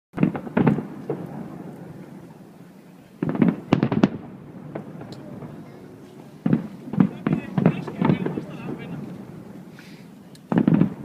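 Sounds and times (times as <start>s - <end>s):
fireworks bangs and crackles: 0.2s - 11.0s.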